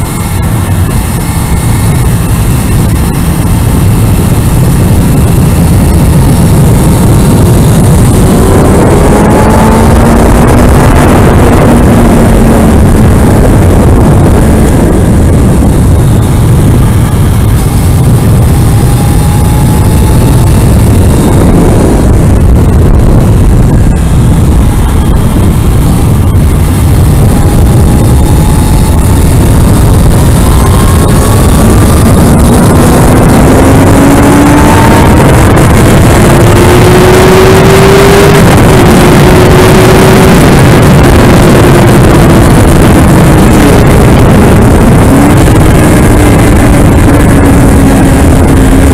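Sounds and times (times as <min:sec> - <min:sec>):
motorcycle engine: 0:00.0 - 0:48.9
wind noise: 0:00.0 - 0:48.9.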